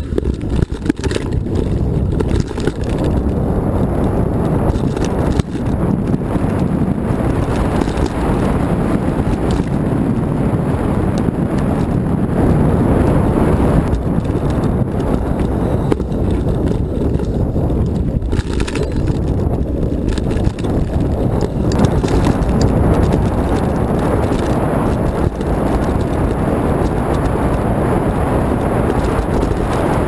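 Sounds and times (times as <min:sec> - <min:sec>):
bike knocks and rattles: 0:00.0 - 0:30.0
bike tyre noise on dirt: 0:00.0 - 0:30.0
wind on microphone: 0:00.0 - 0:30.0.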